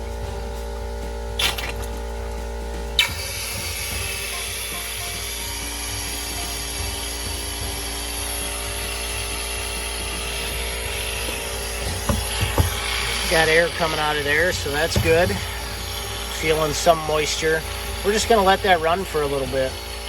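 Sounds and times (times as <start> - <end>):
machine hum: 0.0 - 20.0
compressed air hissing: 3.0 - 20.0.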